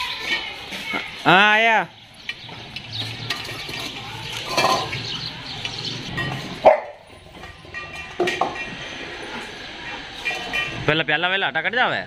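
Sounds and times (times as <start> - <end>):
steel bowls clinking and scraping: 0.0 - 1.3, 2.2 - 11.0.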